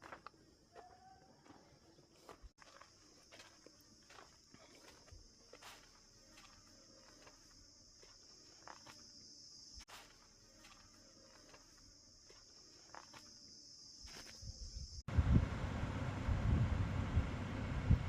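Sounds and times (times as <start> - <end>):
insects droning: 0.0 - 17.8.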